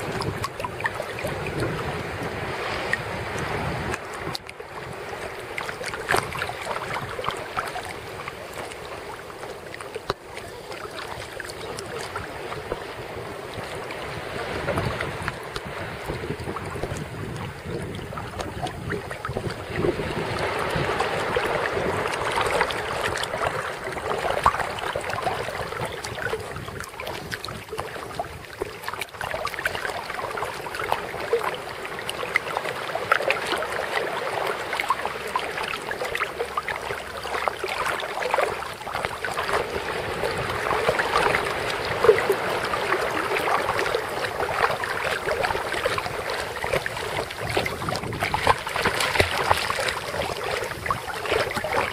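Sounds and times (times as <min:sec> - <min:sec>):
sea water splashing: 0:00.0 - 0:51.9.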